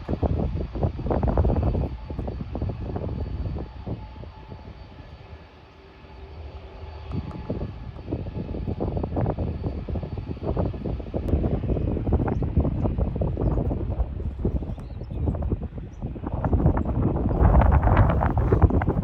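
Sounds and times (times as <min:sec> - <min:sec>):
wind buffeting microphone: 0:00.0 - 0:05.5, 0:06.5 - 0:19.0
jet engine roar: 0:00.0 - 0:19.0.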